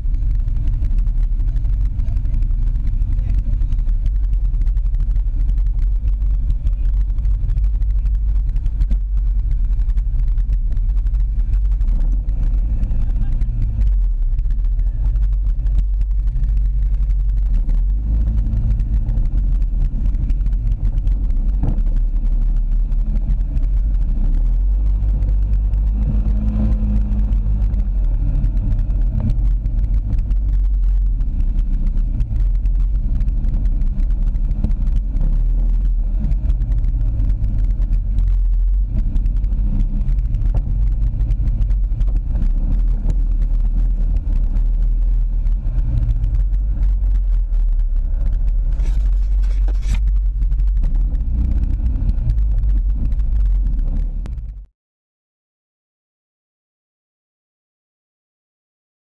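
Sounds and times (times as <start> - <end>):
quad bike engine running: 0.0 - 54.7.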